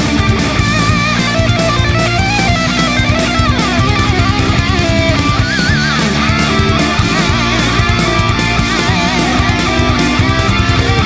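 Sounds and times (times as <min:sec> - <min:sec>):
distorted electric guitar lead: 0:00.0 - 0:11.0
steady rock beat: 0:00.0 - 0:11.0.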